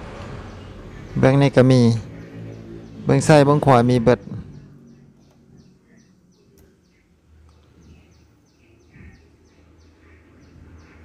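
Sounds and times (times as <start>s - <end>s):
small bird chirping: 0.4s - 11.0s.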